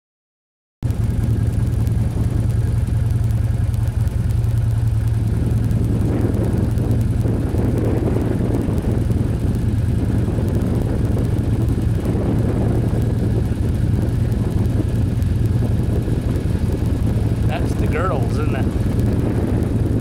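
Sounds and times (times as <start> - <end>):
engine running steadily: 0.8 - 20.0.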